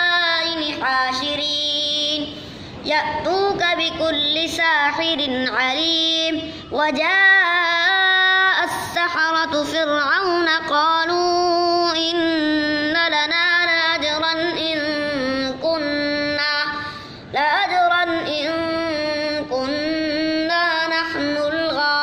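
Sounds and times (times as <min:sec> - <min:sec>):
boy chanting melodically: 0:00.0 - 0:22.0.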